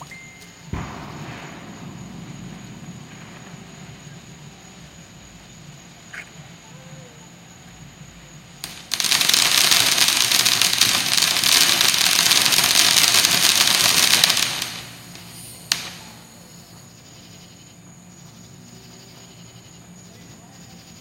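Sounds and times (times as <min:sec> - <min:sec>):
firework crackling hiss: 0:00.0 - 0:17.4.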